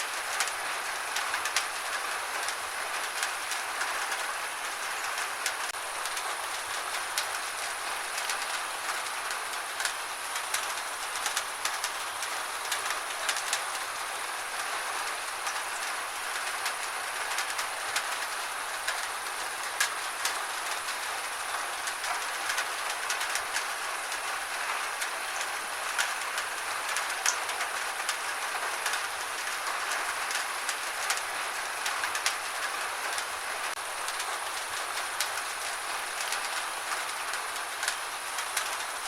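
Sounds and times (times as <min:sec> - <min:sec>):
gentle rain hissing: 0:00.0 - 0:39.0.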